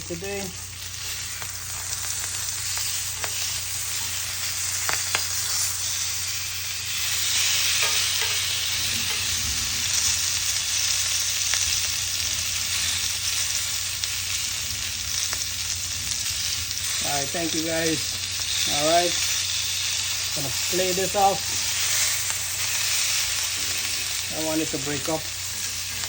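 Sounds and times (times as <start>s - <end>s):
food sizzling on a grill: 0.0s - 26.0s.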